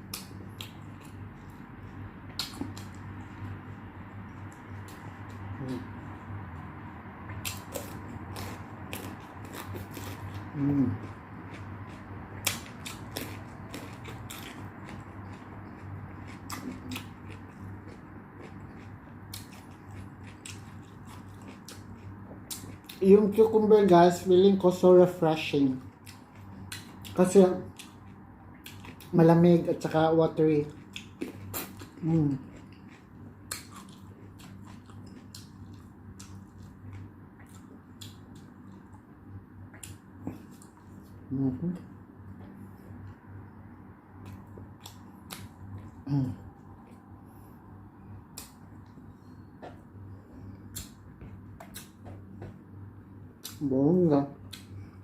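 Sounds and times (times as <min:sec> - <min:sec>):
person chewing crunchy food: 0:00.0 - 0:23.9, 0:25.7 - 0:43.5, 0:44.1 - 0:52.6
steady low hum: 0:00.0 - 0:55.0.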